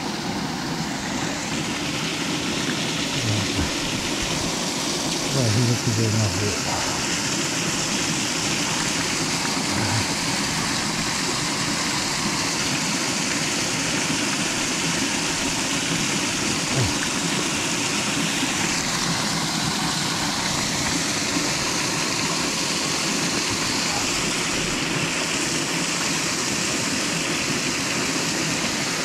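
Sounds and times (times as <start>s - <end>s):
stream flowing over rocks: 0.0s - 29.0s.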